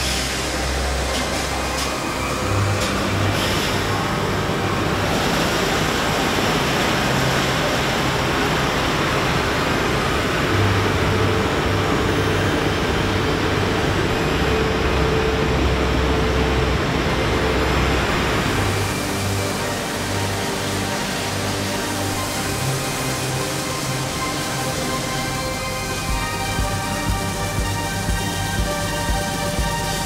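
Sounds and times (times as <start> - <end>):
car wash equipment rushing: 0.0 - 30.0
low hum: 0.0 - 30.0.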